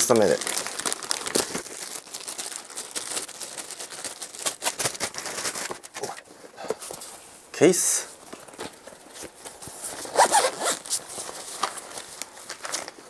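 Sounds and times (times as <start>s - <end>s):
packaging crinkling and rustling: 0.0s - 7.2s, 8.2s - 13.0s.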